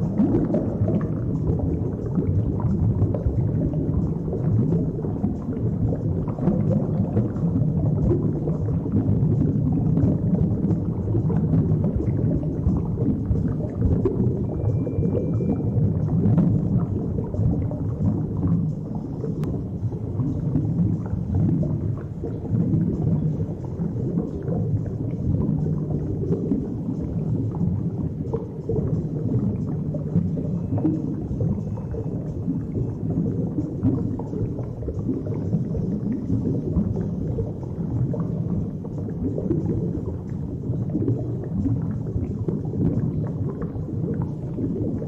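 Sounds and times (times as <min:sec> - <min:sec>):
low muffled underwater rumble: 0:00.0 - 0:45.0.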